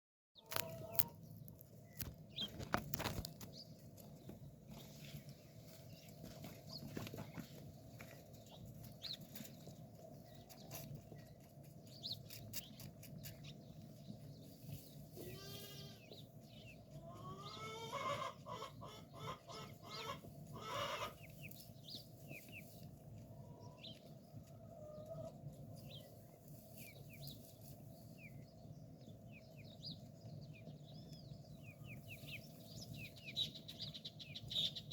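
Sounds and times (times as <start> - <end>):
chickens clucking: 0.4 - 34.9
small birds chirping: 0.4 - 34.9.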